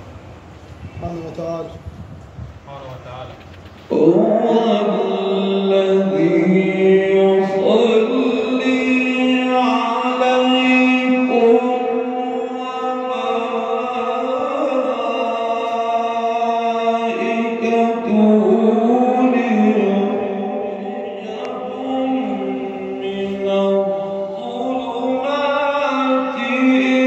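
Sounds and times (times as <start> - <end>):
person chanting long notes: 3.9 - 27.0.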